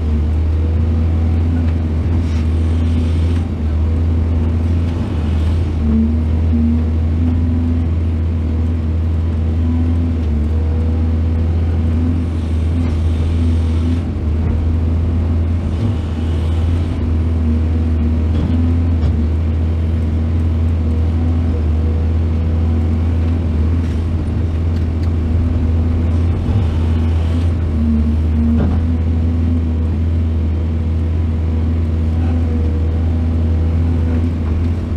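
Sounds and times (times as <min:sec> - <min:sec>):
heavy diesel engine humming: 0:00.0 - 0:34.9.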